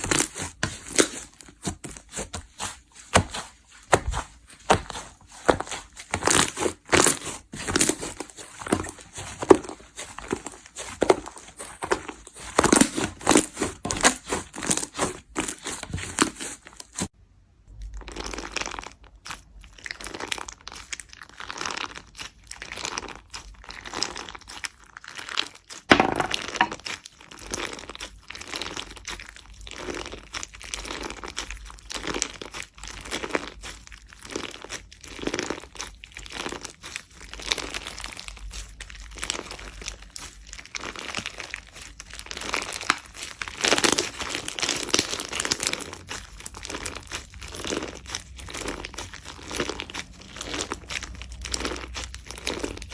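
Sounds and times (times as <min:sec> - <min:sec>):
slime crackling and popping: 0:00.0 - 0:17.1, 0:17.8 - 0:52.9.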